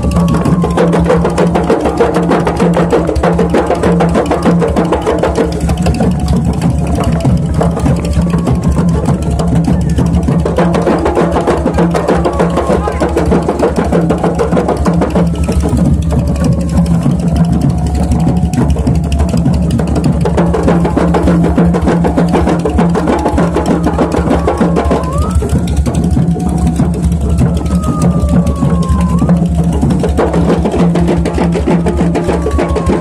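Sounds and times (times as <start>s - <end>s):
frame drums beaten by hand: 0.0s - 33.0s.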